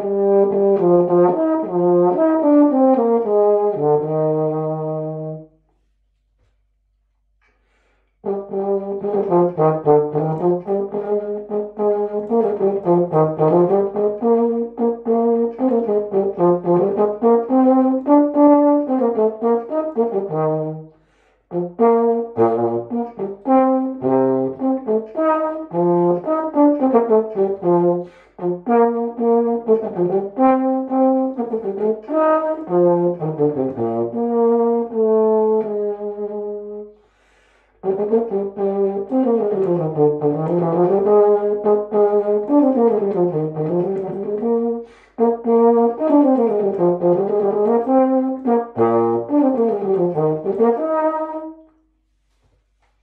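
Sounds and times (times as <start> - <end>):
solo brass melody: 0.0 - 6.0, 7.5 - 53.0.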